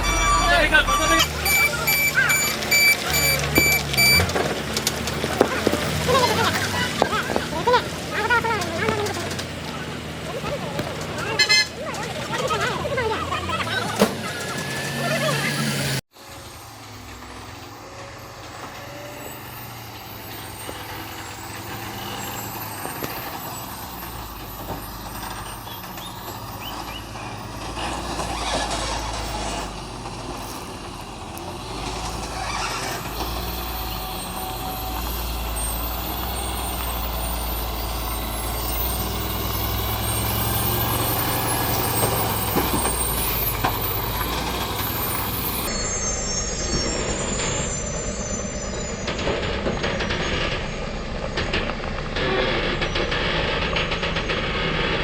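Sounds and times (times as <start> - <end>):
heavy truck engine running: 0.0 - 55.0.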